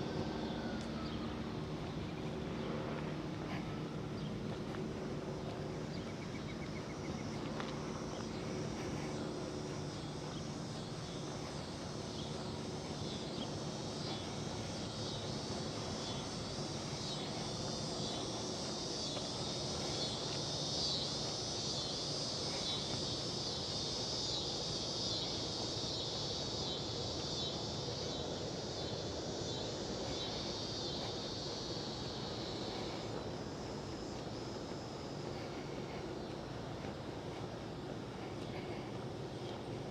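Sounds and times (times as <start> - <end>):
cicadas buzzing: 0.0 - 39.9
distant traffic rumble: 0.0 - 39.9.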